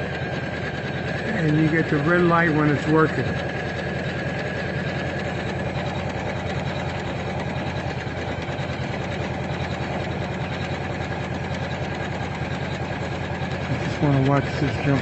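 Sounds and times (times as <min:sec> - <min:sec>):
embroidery machine stitching: 0:00.0 - 0:15.0.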